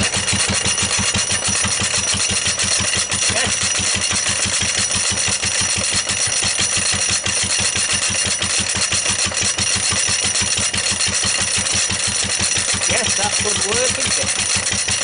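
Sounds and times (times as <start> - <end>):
corn grinder running empty: 0.0 - 15.0
stationary engine running: 0.0 - 15.0.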